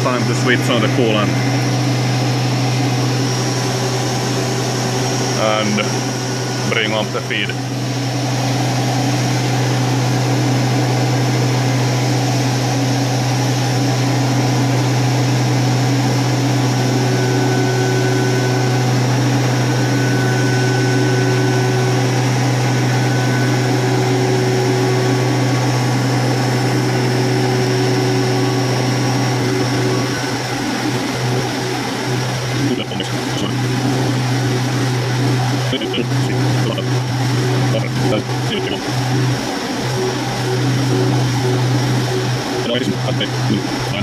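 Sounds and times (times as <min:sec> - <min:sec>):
faint whine: 0:00.0 - 0:44.0
milling machine humming: 0:00.0 - 0:44.0.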